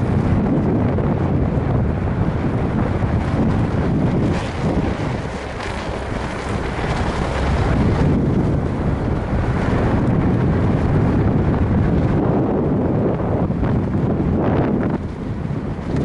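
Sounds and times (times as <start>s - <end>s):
vehicle rumble: 0.0s - 16.0s
wind rushing over microphone: 0.0s - 16.0s.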